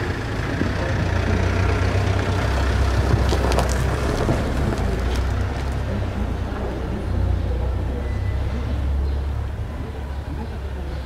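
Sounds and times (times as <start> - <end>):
street traffic rumble: 0.0 - 11.0
vehicle engine running: 0.0 - 11.0.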